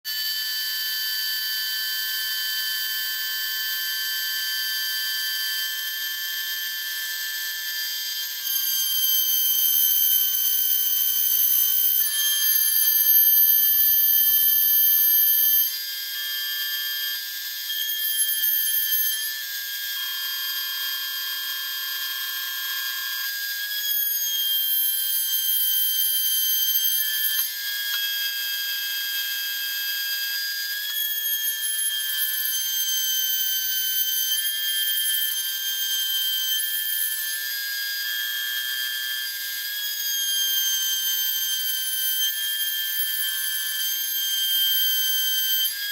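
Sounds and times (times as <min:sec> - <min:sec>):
cnc router high whine: 0:00.1 - 0:45.9.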